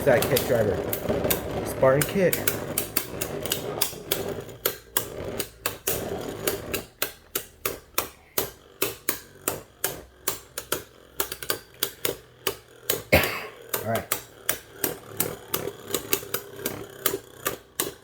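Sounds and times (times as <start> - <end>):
spinning tops clashing: 0.0 - 18.0.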